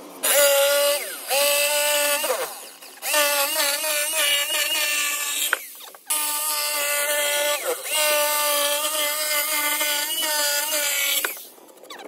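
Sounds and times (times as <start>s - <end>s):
electric drill motor whine: 0.0s - 12.0s.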